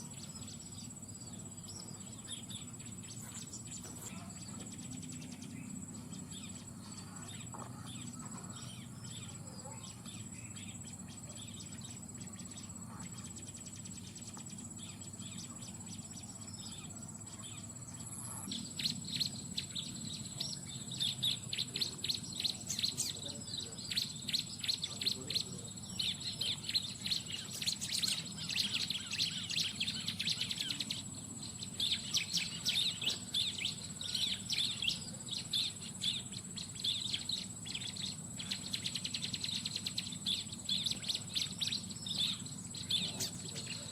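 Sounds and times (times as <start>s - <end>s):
birds twittering chirps: 0.0s - 43.9s
high insect drone: 0.0s - 43.9s.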